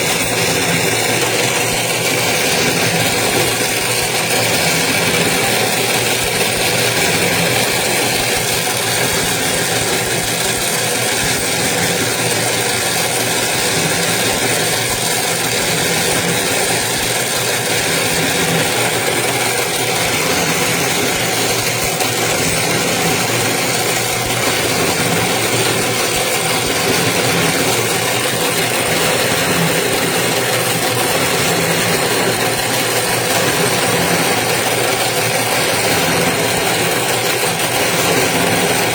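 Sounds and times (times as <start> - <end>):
winding machine motor humming: 0.0 - 38.9.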